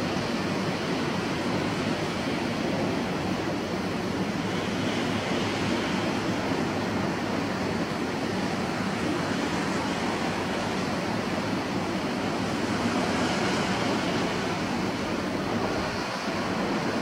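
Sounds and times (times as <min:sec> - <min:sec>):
strong wind: 0:00.0 - 0:17.0
waves breaking on beach: 0:00.0 - 0:17.0.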